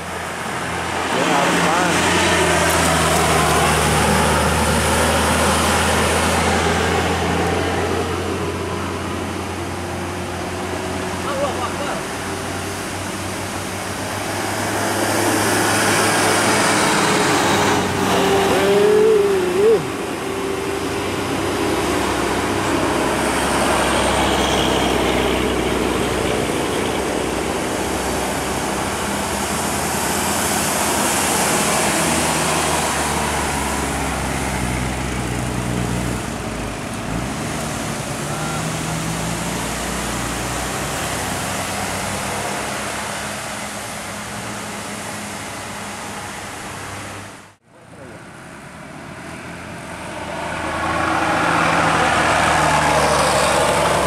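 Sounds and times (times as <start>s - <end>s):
vehicles passing on a road: 0.0s - 54.0s.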